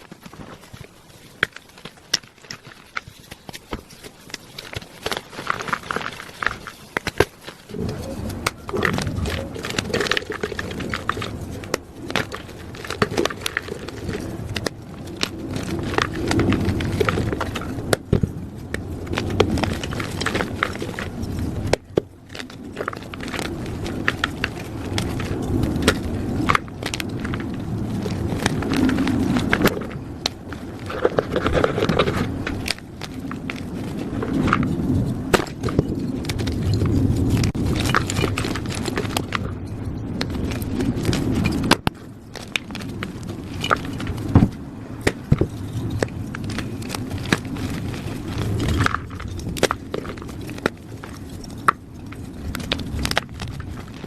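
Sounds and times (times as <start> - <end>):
chalk being crushed: 0.0 - 54.0.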